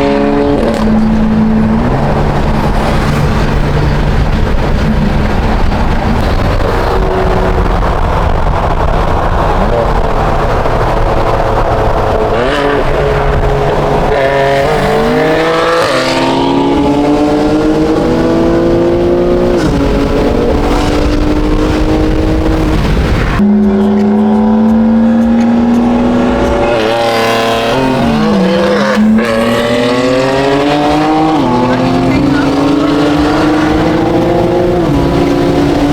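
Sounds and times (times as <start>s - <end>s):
car engine accelerating through gears: 0.0s - 35.9s.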